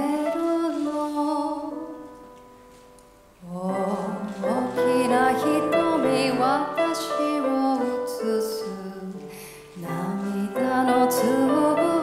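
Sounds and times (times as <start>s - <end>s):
woman singing: 0.0s - 2.1s, 3.4s - 12.0s
piano accompaniment: 0.0s - 12.0s.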